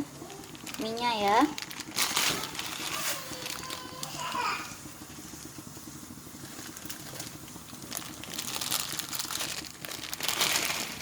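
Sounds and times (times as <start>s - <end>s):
boiling water bubbling: 0.0s - 11.0s.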